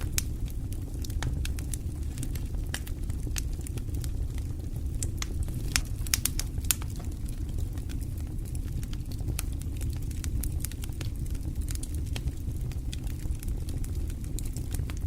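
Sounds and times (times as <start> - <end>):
fire flames rumbling: 0.0 - 15.0
wood fire crackling and popping: 0.0 - 15.0.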